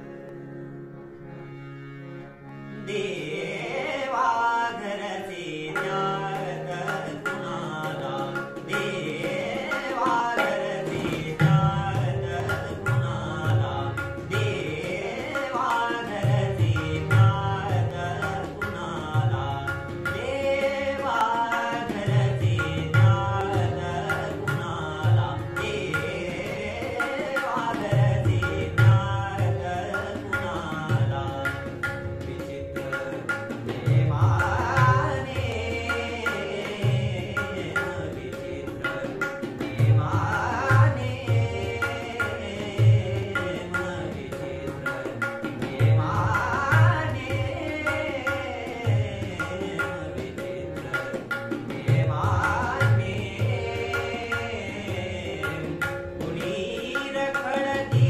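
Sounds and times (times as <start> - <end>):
harmonium: 0.0 - 58.0
man singing: 2.8 - 58.0.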